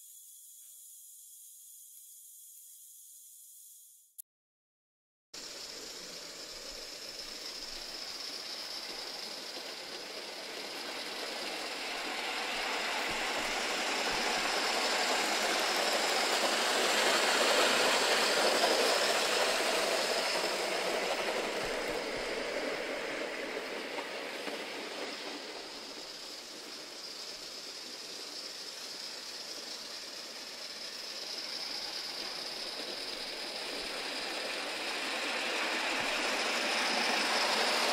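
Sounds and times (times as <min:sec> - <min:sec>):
steam hissing: 0:05.4 - 0:37.9
train wheels on track: 0:05.4 - 0:37.9.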